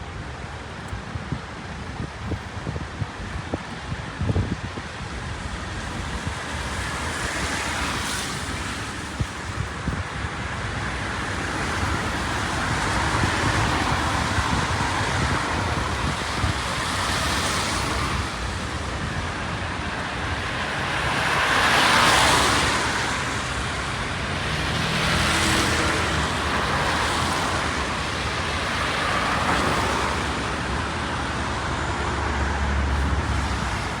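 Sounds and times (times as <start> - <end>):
cars passing with tyre hiss: 0.0 - 34.0
rain: 0.0 - 34.0.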